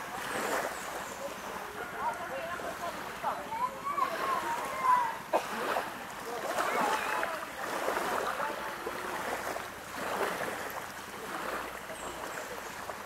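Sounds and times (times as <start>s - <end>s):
sea water lapping and splashing: 0.0s - 13.0s.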